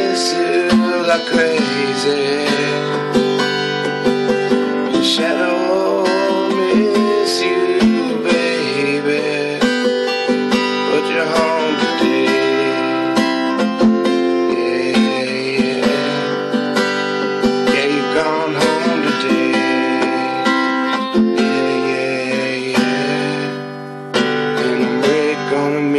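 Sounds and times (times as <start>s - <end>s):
strummed acoustic guitar: 0.0s - 25.9s.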